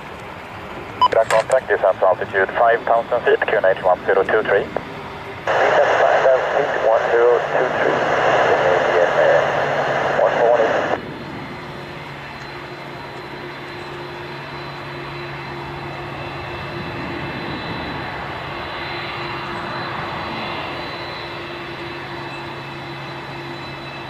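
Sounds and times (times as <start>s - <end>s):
jet engines running: 0.0s - 24.0s
high jet whine: 0.2s - 24.0s.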